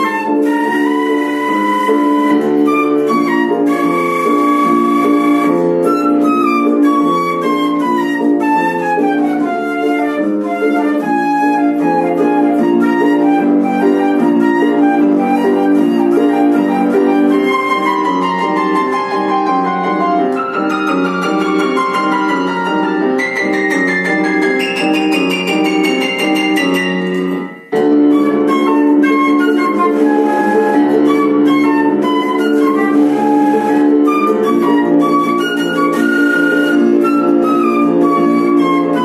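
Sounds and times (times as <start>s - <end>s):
flute and piano duet: 0.0s - 39.0s.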